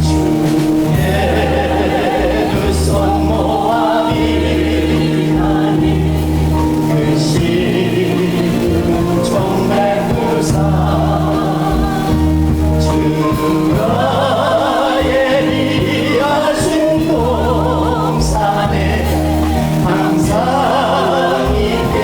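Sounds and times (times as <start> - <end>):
choir singing a hymn: 0.0 - 22.0
low bass notes: 0.0 - 22.0.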